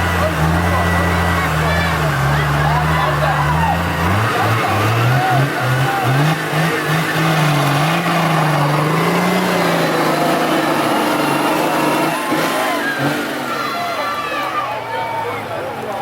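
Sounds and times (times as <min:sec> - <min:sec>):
off-road vehicle engine under load: 0:00.0 - 0:16.0.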